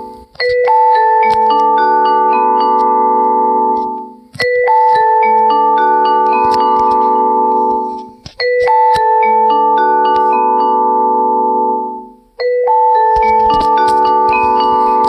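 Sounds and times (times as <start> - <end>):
ringtone mallet melody: 0.0 - 15.0.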